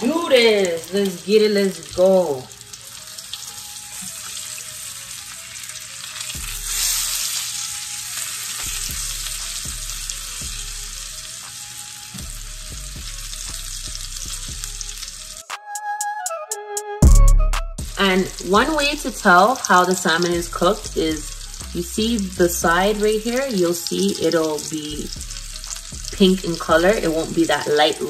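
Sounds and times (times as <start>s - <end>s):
fish sizzling in a frying pan: 0.0s - 15.4s, 17.9s - 28.0s.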